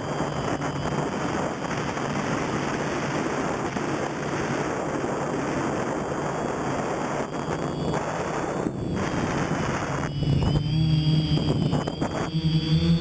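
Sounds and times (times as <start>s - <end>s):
quadcopter motors buzzing: 0.0s - 13.0s
wind rush over microphone: 0.0s - 13.0s.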